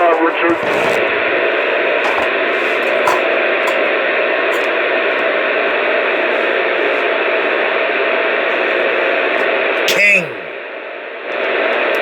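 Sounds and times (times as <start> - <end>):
faint hum: 0.0 - 12.0
radio static hiss: 0.0 - 12.0.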